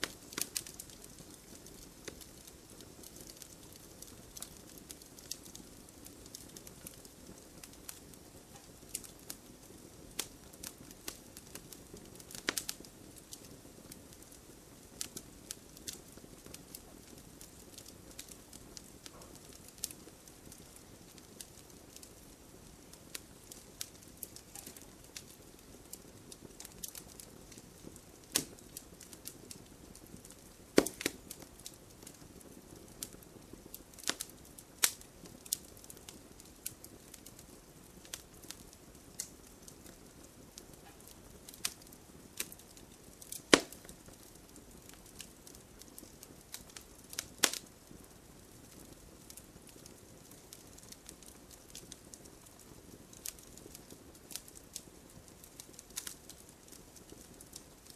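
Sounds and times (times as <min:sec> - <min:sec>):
fire hissing: 0:00.0 - 0:57.6
firewood crackling and popping: 0:00.0 - 0:57.9.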